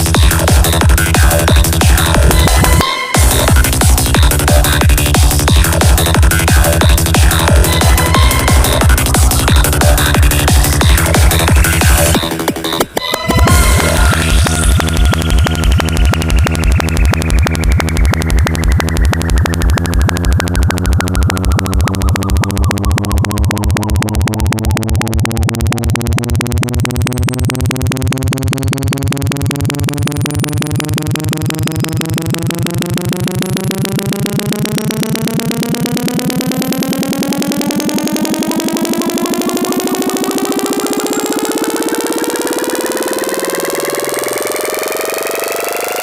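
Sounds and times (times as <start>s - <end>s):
pulsing synthesizer tone: 0.0s - 46.0s
high tone gliding downward: 5.6s - 46.0s.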